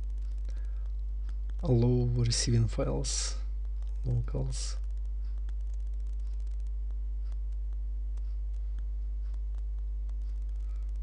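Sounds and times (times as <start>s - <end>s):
faint clicks: 0.0s - 1.7s, 3.6s - 11.0s
electrical mains hum: 0.0s - 11.0s.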